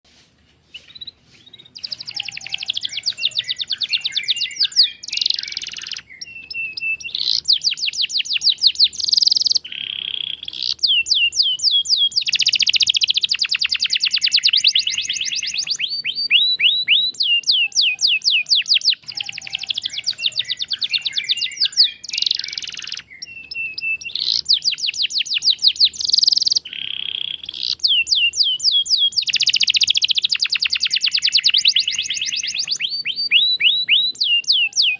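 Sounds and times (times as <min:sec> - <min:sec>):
canary singing trilled song: 0:00.7 - 0:34.9.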